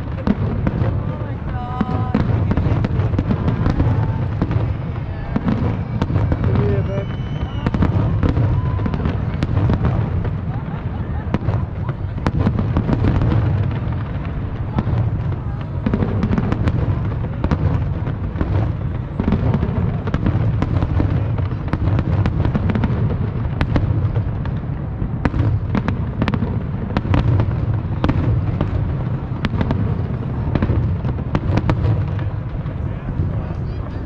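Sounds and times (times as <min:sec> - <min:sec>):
fireworks cracks and bangs: 0:00.0 - 0:34.0.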